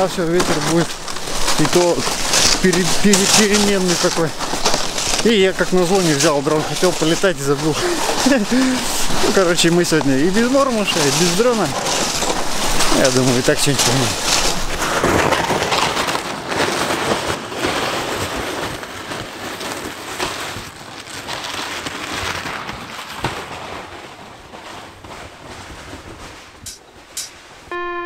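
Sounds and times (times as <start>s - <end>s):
footsteps crunching through snow: 0.0s - 27.7s
plastic sled scraping snow: 0.0s - 27.7s.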